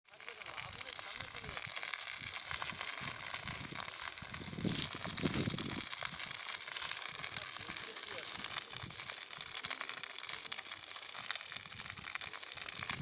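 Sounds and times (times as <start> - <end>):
dry grass burning crackling: 0.1 - 13.0
low rushing surge of flames: 0.8 - 13.0.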